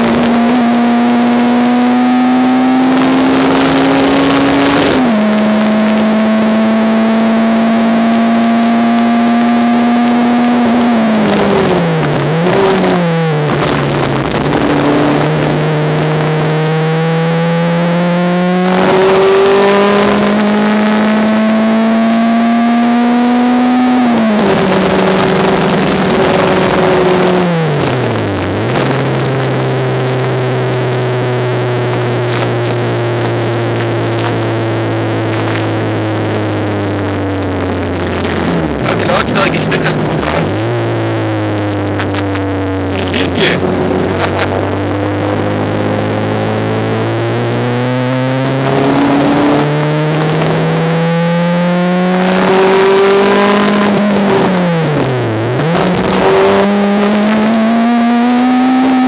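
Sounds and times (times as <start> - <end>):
engine throttle blips: 0.0 - 59.0
race car engine accelerating: 0.0 - 59.0.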